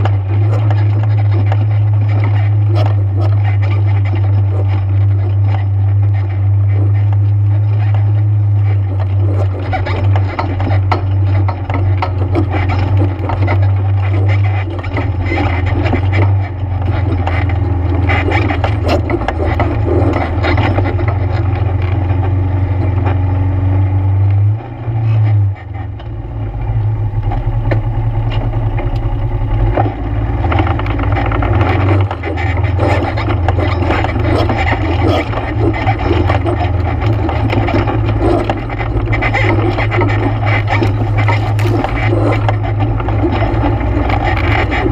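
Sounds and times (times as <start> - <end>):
rattles and knocks: 0.0 - 23.4, 25.2 - 44.9
atv engine running: 0.0 - 44.9.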